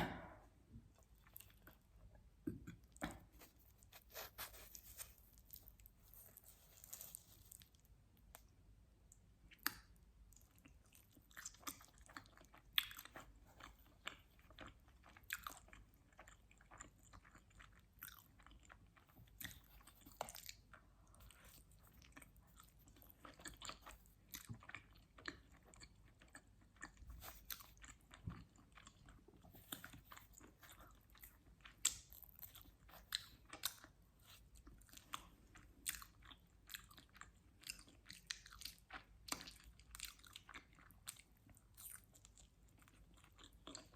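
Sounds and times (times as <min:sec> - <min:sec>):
chewing crisp pizza: 0:00.8 - 0:43.9.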